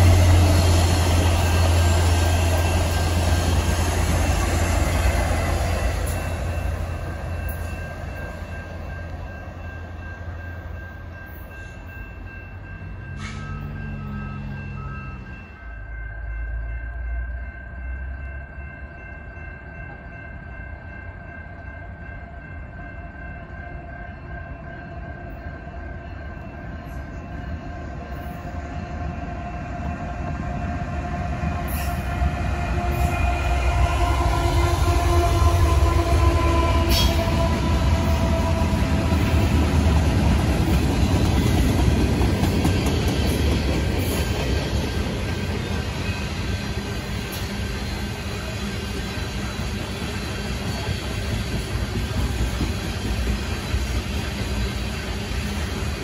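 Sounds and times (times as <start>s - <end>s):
diesel locomotive engines rumbling: 0.0s - 56.0s.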